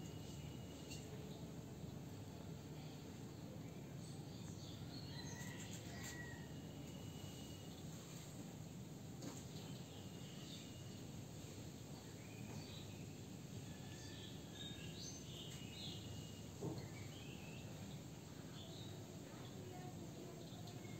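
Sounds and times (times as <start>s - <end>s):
low background noise: 0.0s - 20.9s.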